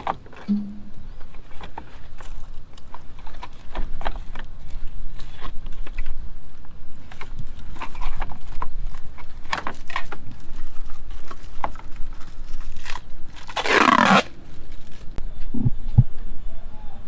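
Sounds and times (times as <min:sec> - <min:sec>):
plastic clicks and scraping: 0:00.0 - 0:15.2.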